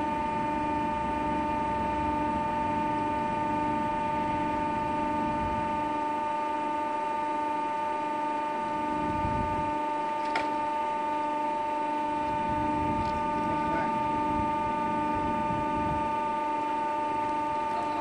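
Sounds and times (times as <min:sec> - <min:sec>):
high-pitched machine whine: 0:00.0 - 0:18.0
pulsing lower hum: 0:00.0 - 0:18.0.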